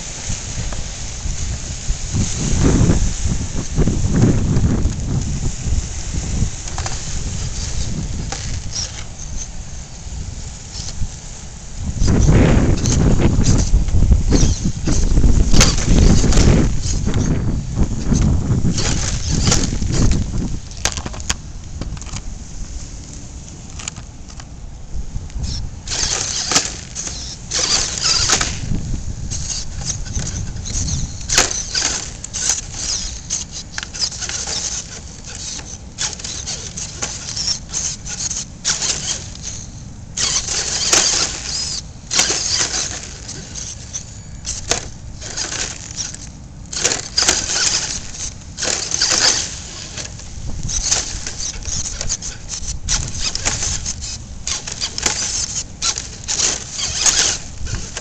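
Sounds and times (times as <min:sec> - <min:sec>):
tyres scrabbling on rock: 0:00.0 - 0:24.6, 0:25.2 - 0:58.0
electric motor whining: 0:00.0 - 0:58.0.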